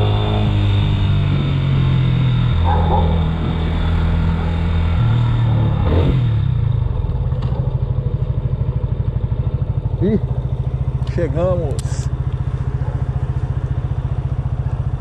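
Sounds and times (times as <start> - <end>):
motorcycle engine slowing: 0.0 - 15.0.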